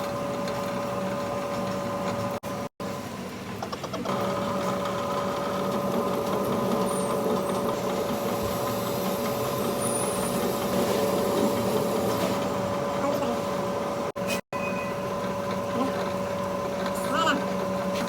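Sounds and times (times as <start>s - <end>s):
machine motor whine and hum: 0.0s - 18.0s.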